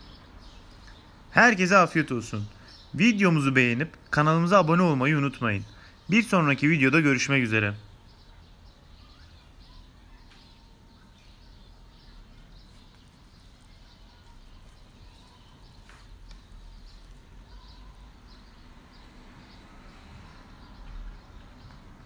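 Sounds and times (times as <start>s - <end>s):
small bird chirps: 2.2s - 22.0s.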